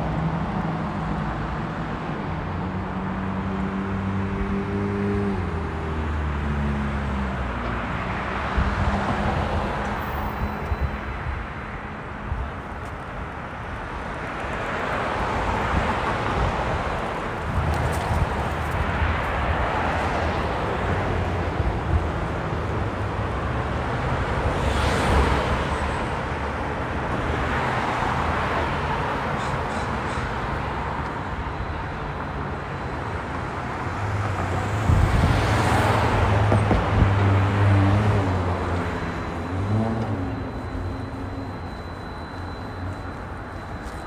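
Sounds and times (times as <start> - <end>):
cars passing by: 0.0 - 44.0.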